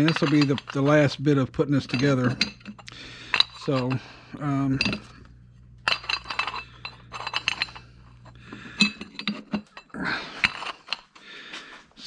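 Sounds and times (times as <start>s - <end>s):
metal brackets and bolts clinking: 0.0s - 11.2s.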